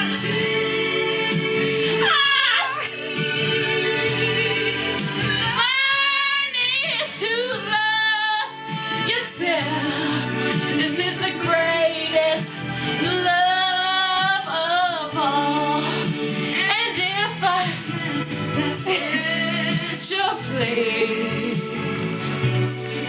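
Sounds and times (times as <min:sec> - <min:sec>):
woman singing a ballad: 0:00.0 - 0:22.1
musical accompaniment: 0:00.0 - 0:23.0.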